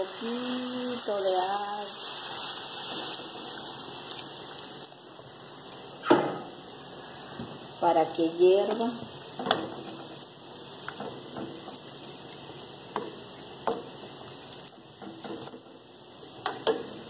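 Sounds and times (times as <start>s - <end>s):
stew sizzling and crackling in a pan: 0.0s - 17.0s.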